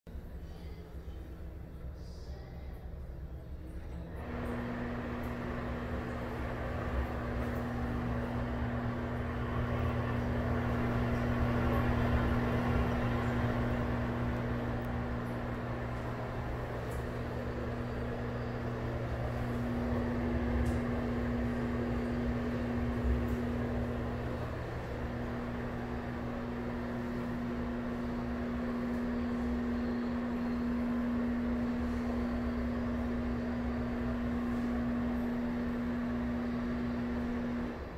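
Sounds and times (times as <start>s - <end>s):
exhaust fan humming: 0.1s - 37.9s.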